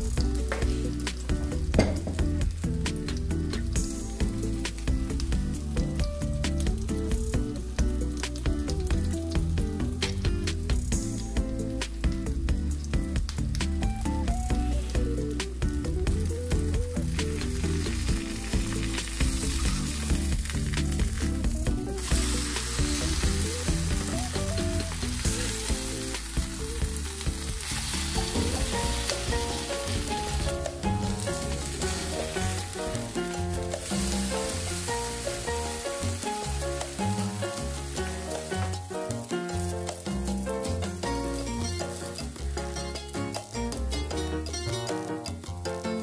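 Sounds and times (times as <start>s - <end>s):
background music: 0.0s - 46.0s
patties sizzling in oil: 0.0s - 46.0s.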